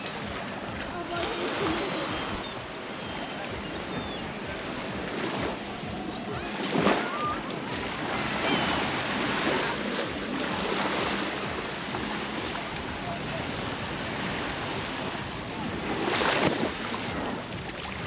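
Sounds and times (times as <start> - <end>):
waves breaking ashore: 0.0 - 18.0.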